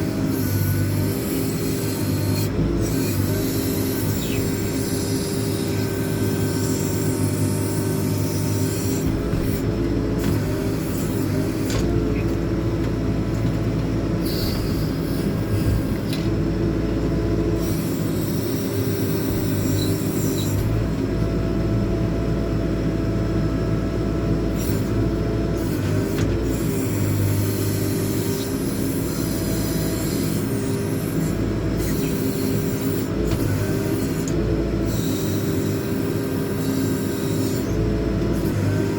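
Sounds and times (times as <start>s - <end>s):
hydraulic whine: 0.0s - 22.5s, 23.4s - 38.9s
diesel engine running under load: 0.0s - 38.9s.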